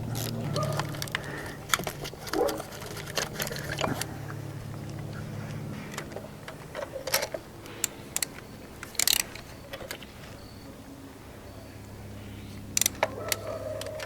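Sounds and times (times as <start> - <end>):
hand tools clicking: 0.0 - 10.4, 12.7 - 14.0.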